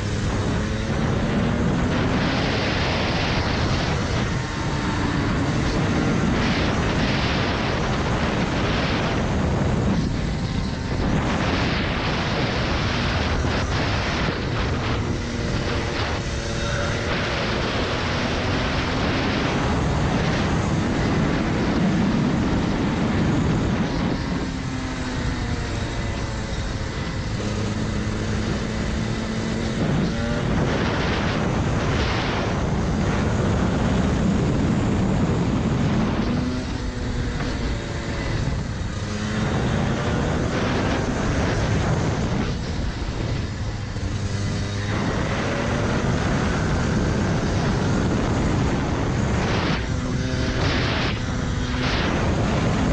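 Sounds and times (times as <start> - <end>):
kart engine revving: 0.0 - 52.9.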